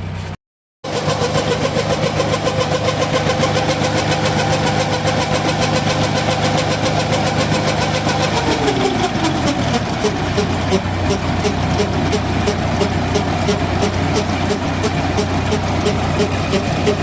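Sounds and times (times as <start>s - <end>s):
combine harvester running: 0.0s - 17.0s
steady machine whine: 0.8s - 17.0s.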